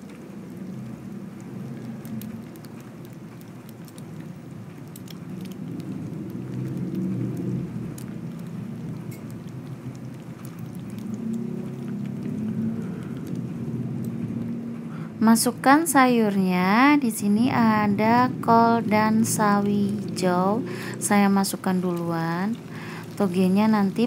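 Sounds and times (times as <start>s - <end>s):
egg sizzling in hot oil: 0.0s - 14.2s, 17.6s - 24.0s
oil crackling and popping: 0.0s - 14.7s, 17.5s - 24.0s
steady low rumble: 0.1s - 24.0s.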